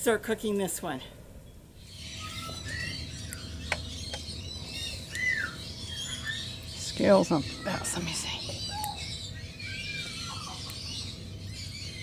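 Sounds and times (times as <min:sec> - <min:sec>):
birds chirping: 0:00.5 - 0:12.0.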